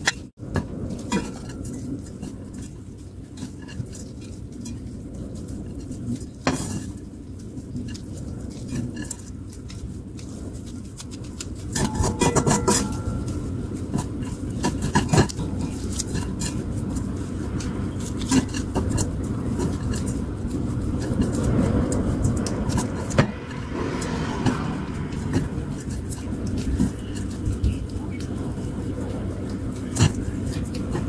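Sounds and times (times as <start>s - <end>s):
steady low rumble: 0.4s - 31.0s
squid strands rustling in a pan: 0.8s - 31.0s.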